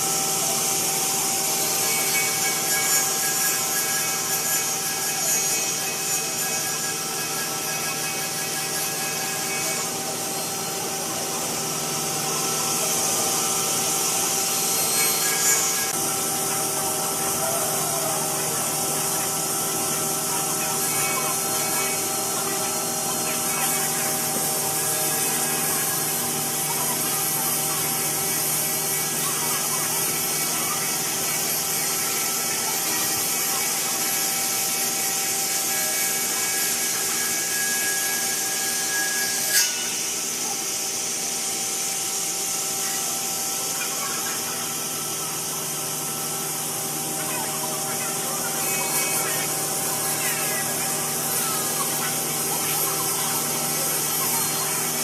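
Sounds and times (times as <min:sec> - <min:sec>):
router bit cutting wood: 0:00.0 - 0:55.0
wood router spindle whine: 0:00.0 - 0:55.0.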